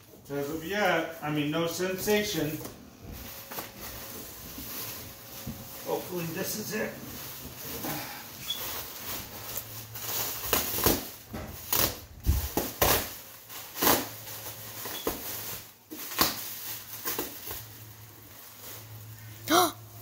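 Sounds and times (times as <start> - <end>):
bubble wrap crinkling and rustling: 0.0 - 20.0.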